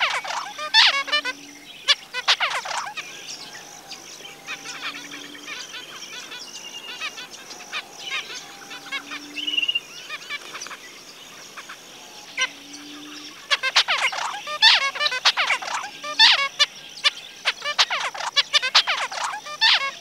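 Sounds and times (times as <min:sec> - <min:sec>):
finches chirping and singing: 0:00.0 - 0:20.0.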